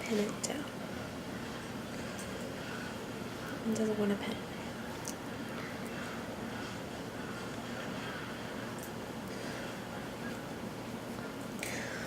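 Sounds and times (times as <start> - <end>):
room background hiss: 0.0 - 12.0.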